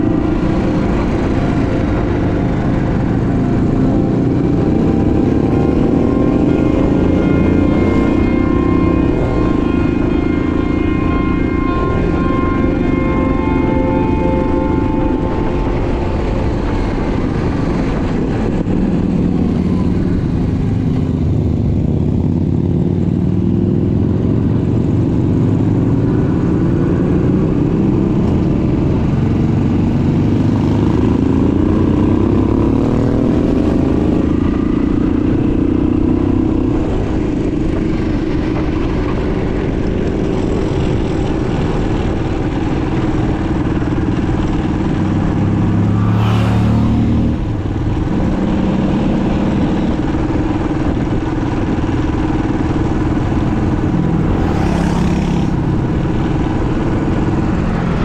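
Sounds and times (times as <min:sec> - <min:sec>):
engine accelerating: 0:00.0 - 0:58.0
vehicle engines running: 0:00.0 - 0:58.0.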